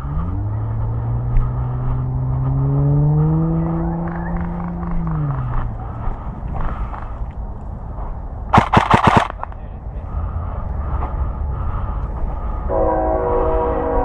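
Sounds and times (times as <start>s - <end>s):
passing vehicle engine hum: 0.0s - 8.6s, 9.2s - 14.0s.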